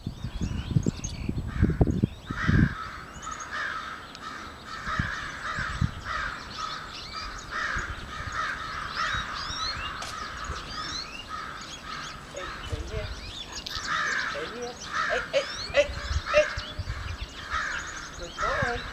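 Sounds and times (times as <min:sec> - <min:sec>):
small birds chirping: 0:00.0 - 0:18.9
crows cawing: 0:01.5 - 0:18.9.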